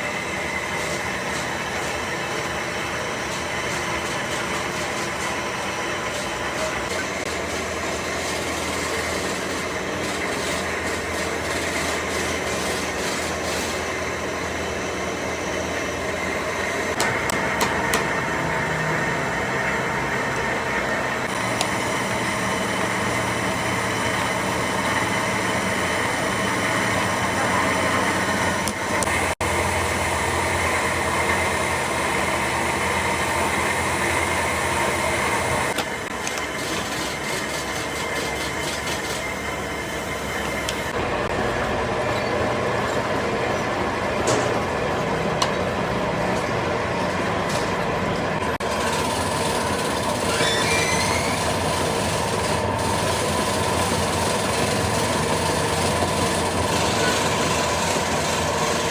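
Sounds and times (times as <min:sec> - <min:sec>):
factory machinery humming: 0:00.0 - 0:58.9
machine whining tones: 0:00.0 - 0:58.9.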